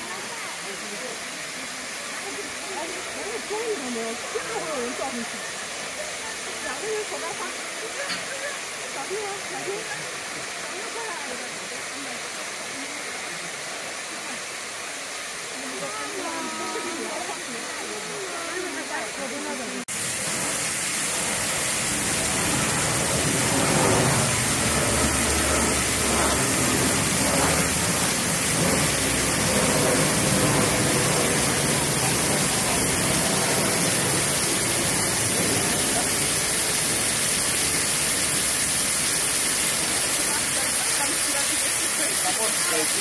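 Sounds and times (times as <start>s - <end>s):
steady rush of water: 0.0s - 43.0s
water splashing into a pool: 0.0s - 43.0s.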